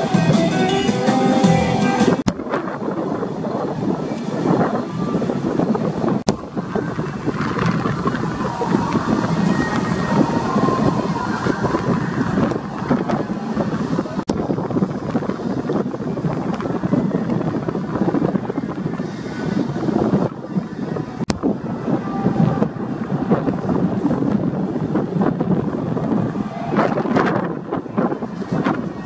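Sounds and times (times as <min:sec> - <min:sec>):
wind buffeting microphone: 0:01.6 - 0:29.0.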